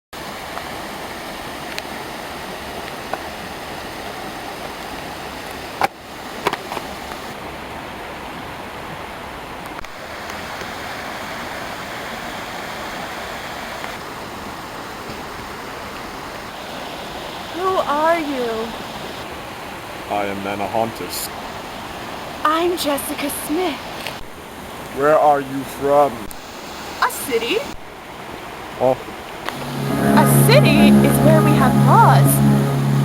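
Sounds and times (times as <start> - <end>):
running water rushing: 0.1 - 33.0.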